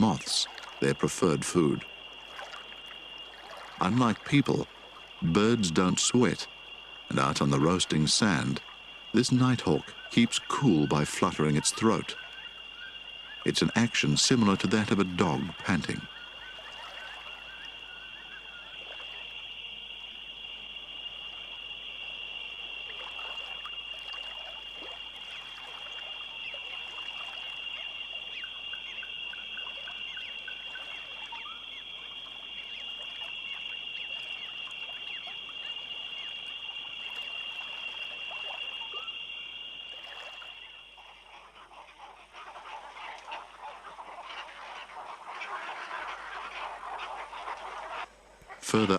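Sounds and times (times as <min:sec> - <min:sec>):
frogs or insects chorus: 0:00.0 - 0:48.9.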